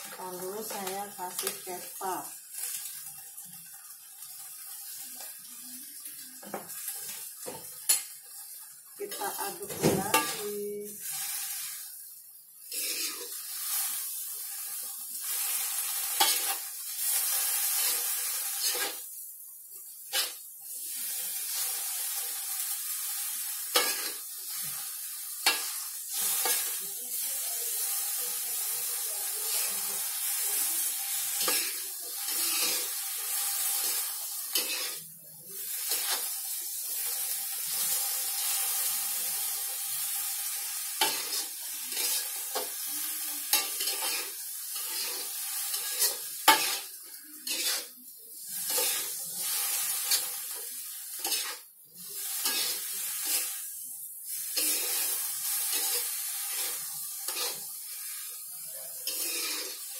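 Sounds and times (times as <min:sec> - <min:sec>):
vegetables sizzling in a wok: 0:00.0 - 0:59.9.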